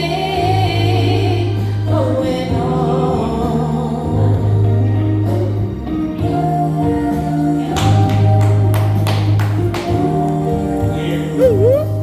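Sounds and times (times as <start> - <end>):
live band playing slow ballad: 0.0 - 12.0.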